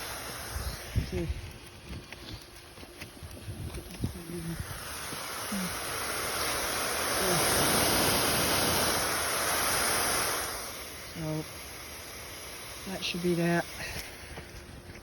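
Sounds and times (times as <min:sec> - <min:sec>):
sprinklers spraying water: 0:00.0 - 0:15.0.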